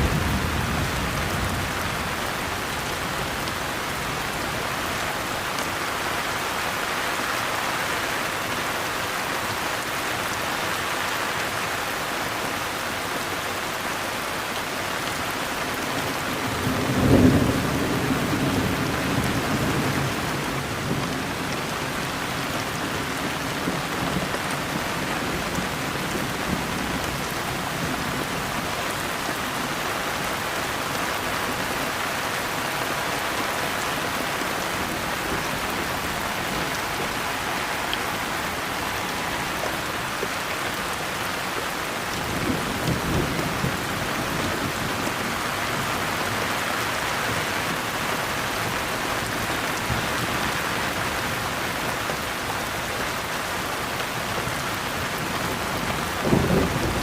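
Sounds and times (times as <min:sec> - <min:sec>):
dense rain falling: 0:00.0 - 0:57.0.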